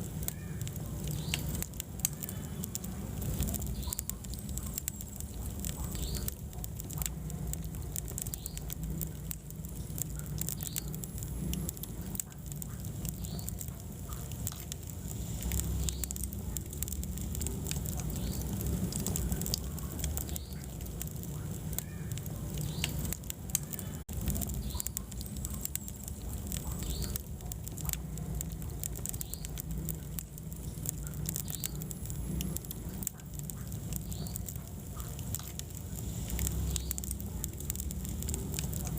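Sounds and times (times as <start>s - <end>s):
burning wood squeaking: 0.0s - 38.9s
fire roaring: 0.0s - 38.9s
wood crackling and popping: 0.0s - 38.9s.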